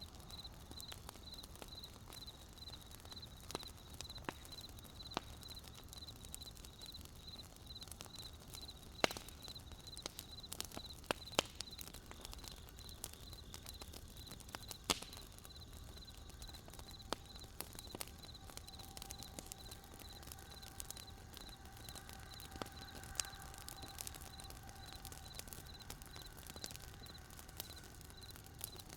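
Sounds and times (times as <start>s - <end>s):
wood fire crackling and popping: 0.0s - 28.9s
crickets chirping: 0.3s - 8.8s, 9.4s - 11.8s, 12.4s - 14.8s, 15.5s - 28.9s.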